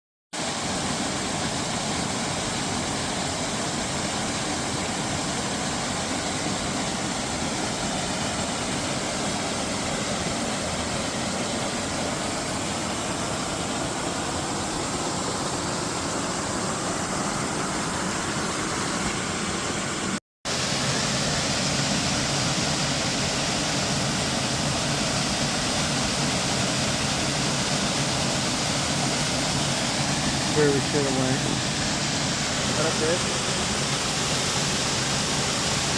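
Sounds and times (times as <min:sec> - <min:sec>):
waterfall roaring: 0:00.4 - 0:35.9.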